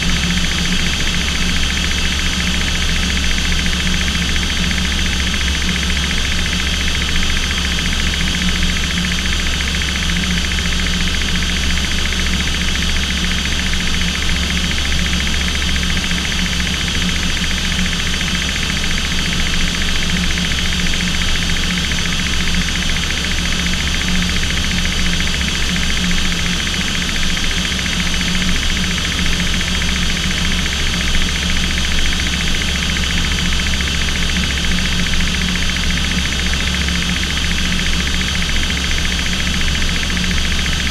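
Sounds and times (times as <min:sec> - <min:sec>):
aircraft engine drone: 0:00.0 - 0:40.9.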